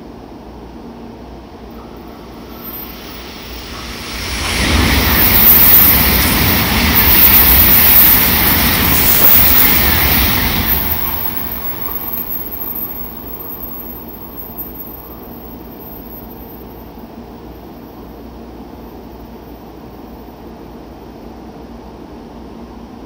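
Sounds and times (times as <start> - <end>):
high-speed train passing: 0.0 - 23.0.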